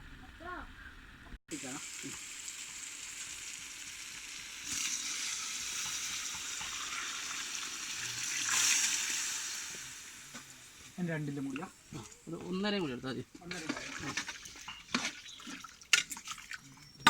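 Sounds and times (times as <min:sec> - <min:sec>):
food sizzling in a pot: 0:01.5 - 0:17.0.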